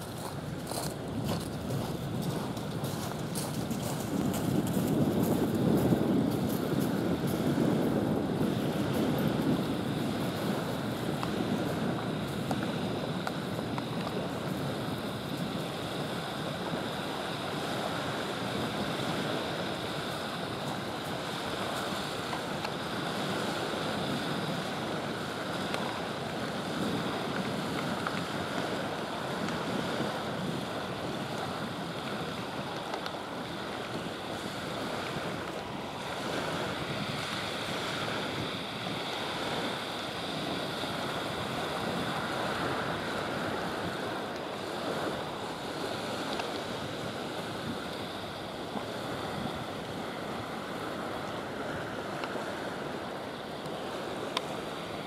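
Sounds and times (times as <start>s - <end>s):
small waves breaking: 0.0s - 55.0s
wind buffeting microphone: 0.0s - 55.0s.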